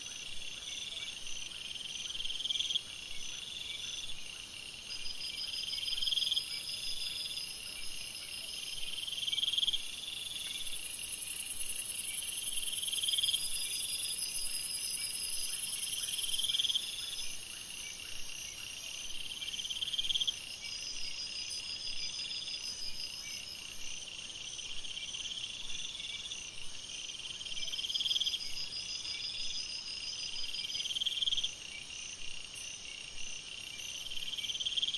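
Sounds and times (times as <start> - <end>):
steady high insect trills: 0.0 - 34.9.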